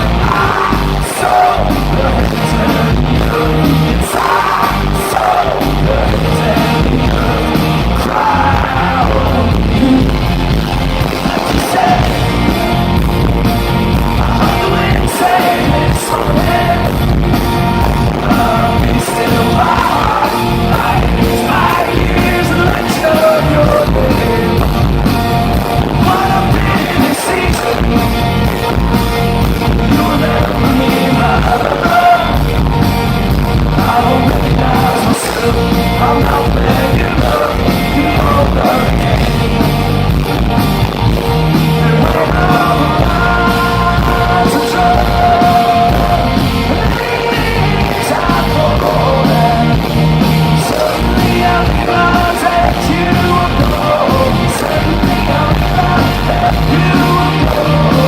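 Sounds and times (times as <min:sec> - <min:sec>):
man singing: 0:00.0 - 0:10.4, 0:11.0 - 0:12.6, 0:14.0 - 0:25.0, 0:25.8 - 0:28.8, 0:29.6 - 0:32.8, 0:33.5 - 0:40.1, 0:41.7 - 0:58.0
live rock band playing: 0:00.0 - 0:58.0.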